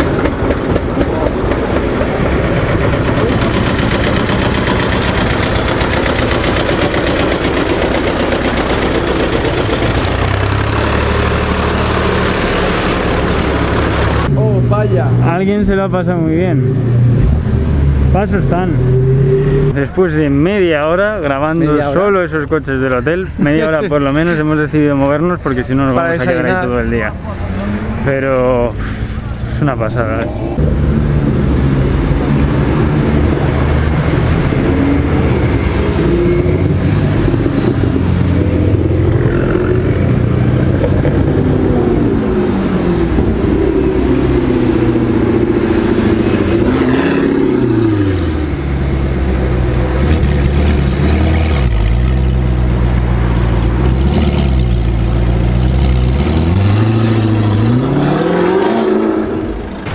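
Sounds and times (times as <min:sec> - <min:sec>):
car engine running: 0:00.0 - 0:20.6, 0:25.5 - 0:58.4.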